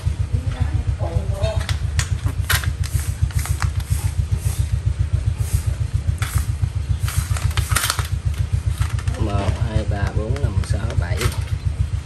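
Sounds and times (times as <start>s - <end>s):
motor throbbing hum: 0.0s - 12.0s.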